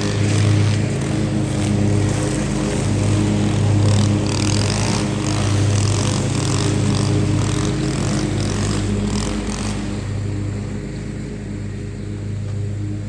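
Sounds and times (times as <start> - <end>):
string trimmer engine running: 0.0 - 13.0
trimmer line cutting grass: 0.0 - 13.0.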